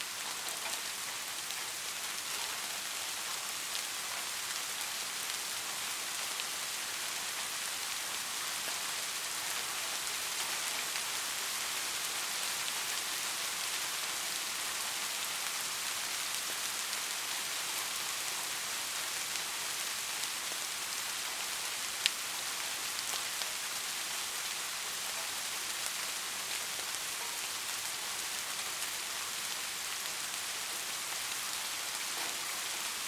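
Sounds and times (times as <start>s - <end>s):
gentle rain hiss: 0.0s - 33.0s.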